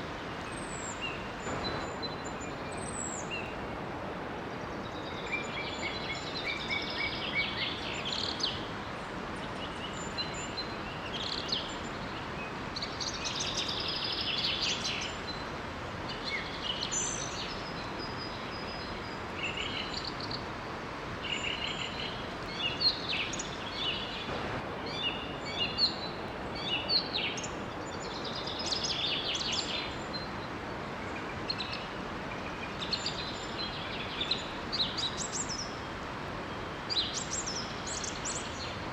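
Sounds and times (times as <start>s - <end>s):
flowing water rushing: 0.0s - 38.9s
songbirds singing and chirping: 0.0s - 38.9s.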